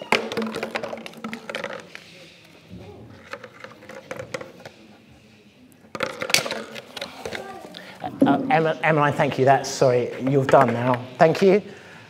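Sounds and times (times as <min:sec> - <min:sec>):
indistinct voices in a hall: 0:00.0 - 0:12.0.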